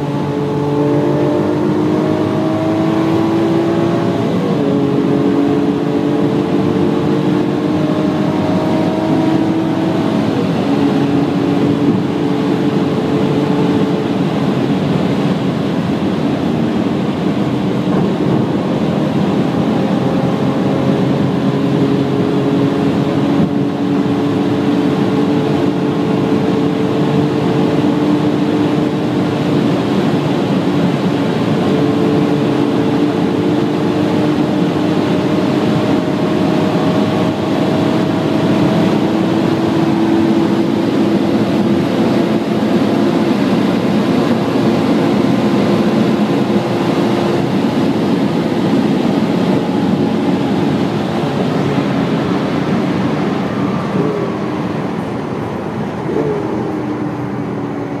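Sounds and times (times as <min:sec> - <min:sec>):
car engine at high speed: 0:00.0 - 0:58.0
wind and tyre noise: 0:00.0 - 0:58.0.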